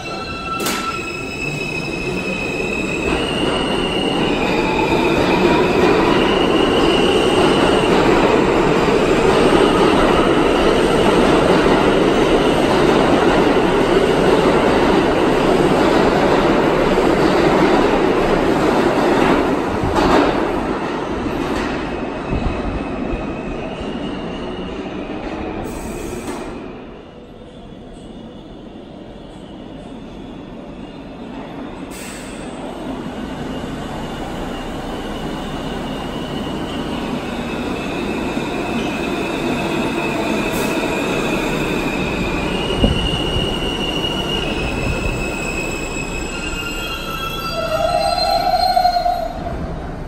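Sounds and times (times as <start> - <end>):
subway train propulsion whine: 0.0 - 50.0.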